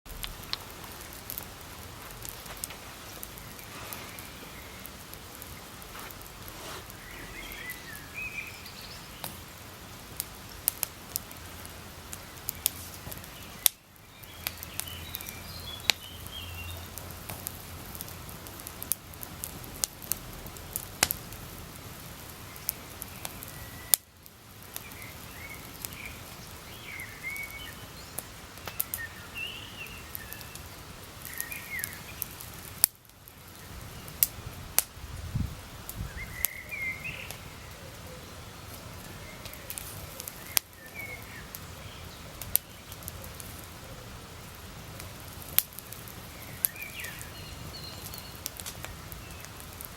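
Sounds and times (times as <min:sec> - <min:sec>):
campfire crackling and popping: 0:00.1 - 0:49.9
fire hiss: 0:00.1 - 0:49.9.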